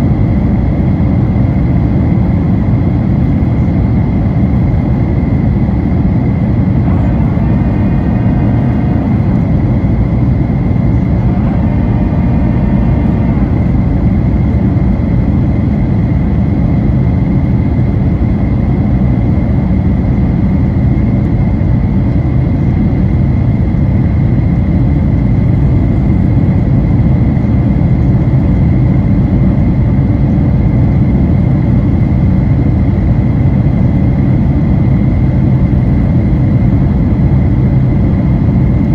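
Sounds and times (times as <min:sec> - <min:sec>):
airplane cabin engine rumble: 0:00.0 - 0:38.9
thin steady whine: 0:00.0 - 0:38.9.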